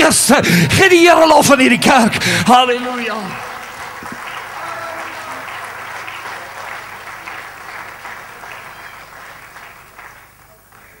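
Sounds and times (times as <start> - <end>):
crowd clapping: 2.2 - 11.0.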